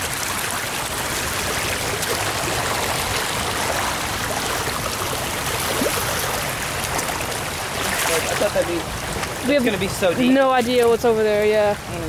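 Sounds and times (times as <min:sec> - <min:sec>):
flooded creek rushing: 0:00.0 - 0:12.0.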